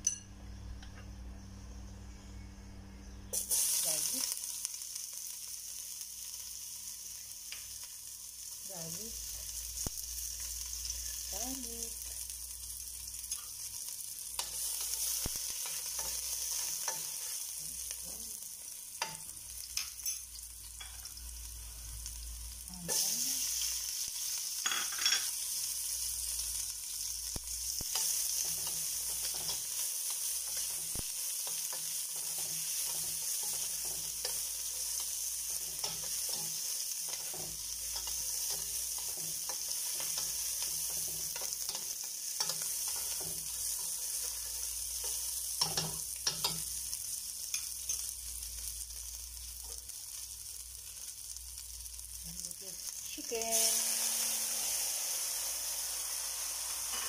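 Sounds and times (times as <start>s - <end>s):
garlic sizzling in oil: 3.3s - 57.0s.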